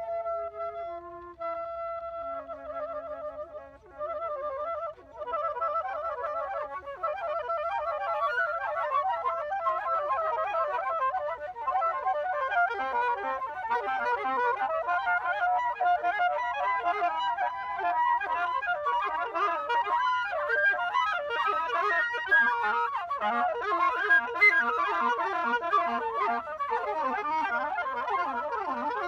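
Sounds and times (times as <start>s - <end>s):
woodwind instruments playing fast runs: 0.0s - 29.0s.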